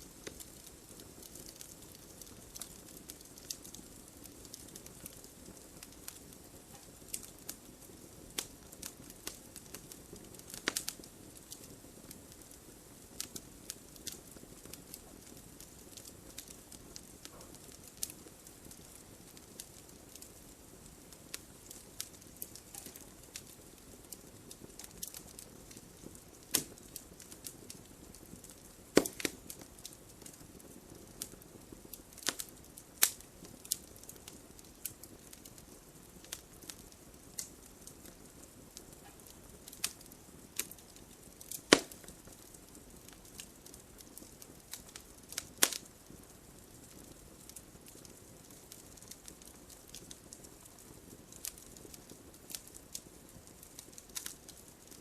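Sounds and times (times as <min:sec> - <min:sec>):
hiss of flames: 0:00.0 - 0:55.0
wood fire crackling: 0:00.0 - 0:55.0.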